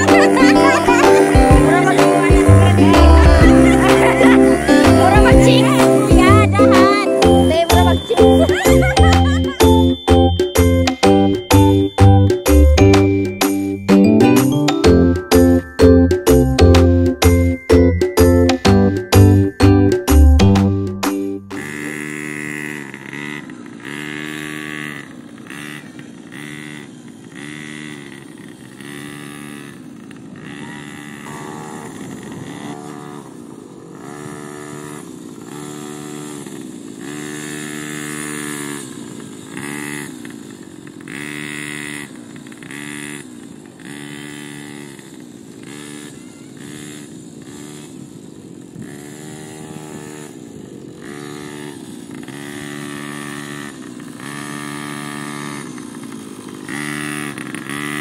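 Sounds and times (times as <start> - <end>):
small petrol engine revving: 0.0 - 58.0.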